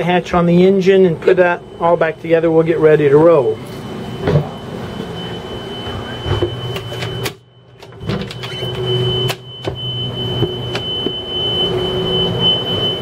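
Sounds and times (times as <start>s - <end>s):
high-pitched alarm tone: 0.0s - 13.0s.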